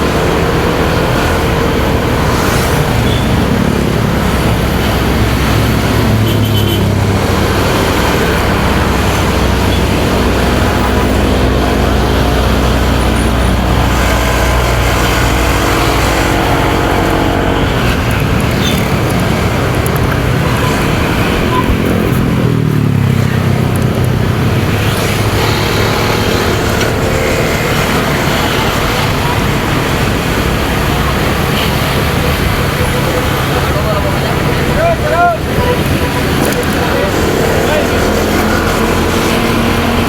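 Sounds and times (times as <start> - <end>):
motorcycle engine running: 0.0 - 40.0
surrounding traffic: 0.0 - 40.0
wind and road noise: 0.0 - 40.0.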